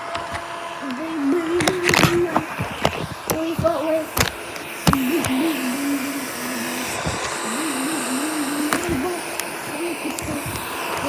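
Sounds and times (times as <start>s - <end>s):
robot vacuum running: 0.0s - 11.0s.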